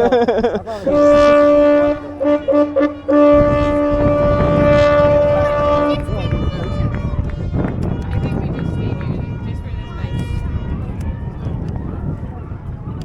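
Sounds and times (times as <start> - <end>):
ship's horn blasts: 0.8 - 11.3.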